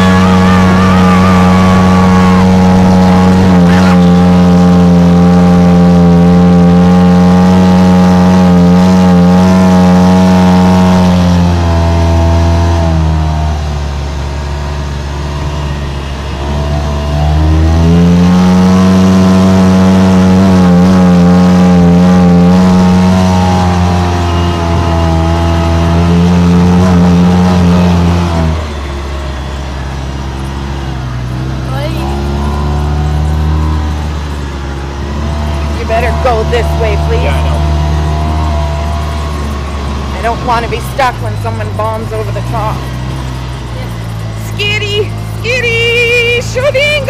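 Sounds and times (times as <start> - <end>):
vehicle engine revving high: 0.0 - 47.0.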